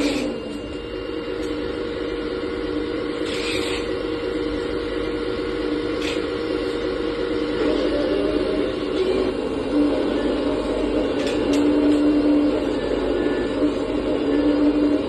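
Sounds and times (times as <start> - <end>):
model excavator whine: 0.0 - 15.0.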